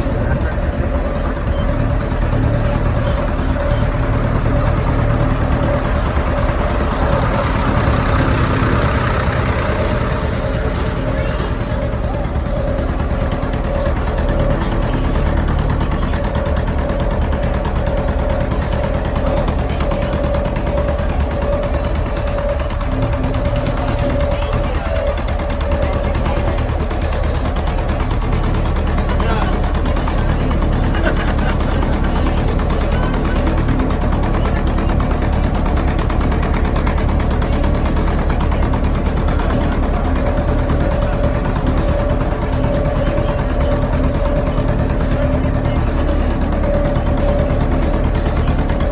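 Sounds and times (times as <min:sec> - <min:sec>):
steady whine: 0:00.0 - 0:48.9
tractor engine running: 0:00.0 - 0:48.9.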